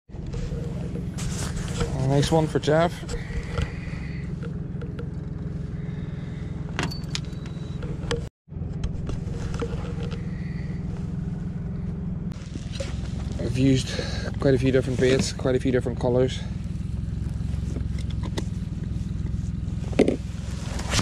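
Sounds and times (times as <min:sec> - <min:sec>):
outboard motor droning: 0:00.1 - 0:21.0.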